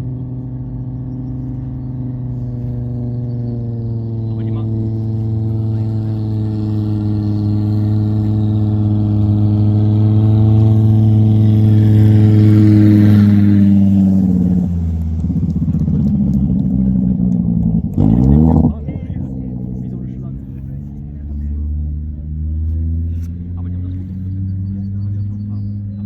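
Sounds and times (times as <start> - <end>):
exhaust crackling on overrun: 0.0 - 26.0
race car engine: 0.0 - 26.0.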